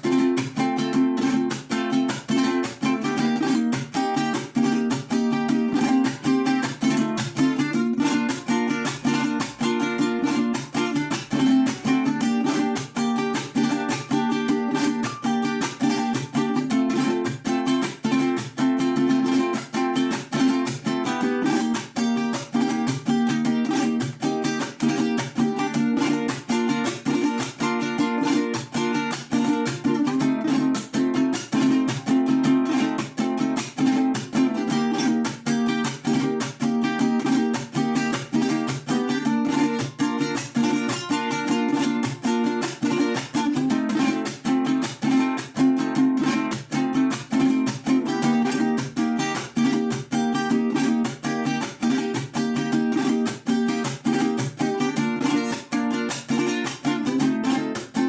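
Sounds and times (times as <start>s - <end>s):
guitar strumming chords: 0.0s - 58.0s.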